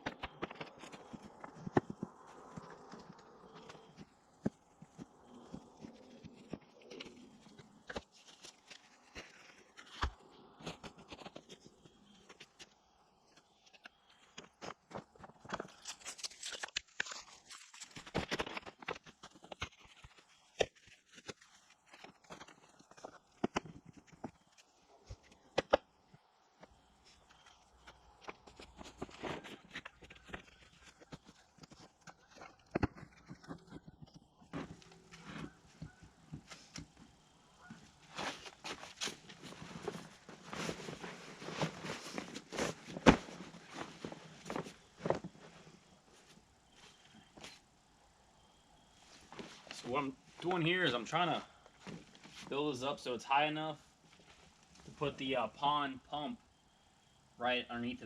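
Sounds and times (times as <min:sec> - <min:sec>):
rocks and soil crunching: 0:00.0 - 0:47.7, 0:48.8 - 0:56.4.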